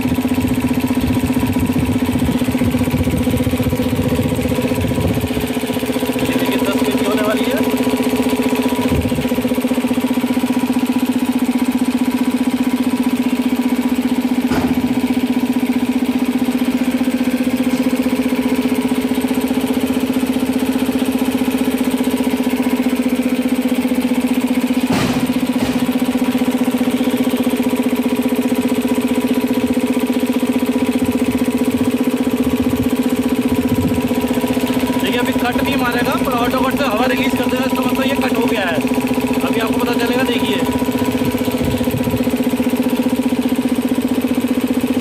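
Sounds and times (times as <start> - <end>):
air compressor running: 0.0 - 45.0.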